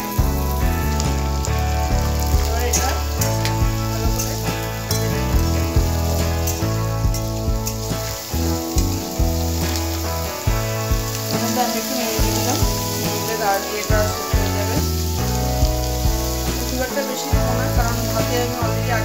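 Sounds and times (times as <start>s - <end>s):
background music with bass line: 0.0s - 19.0s
vegetables sizzling in wok: 0.0s - 19.0s.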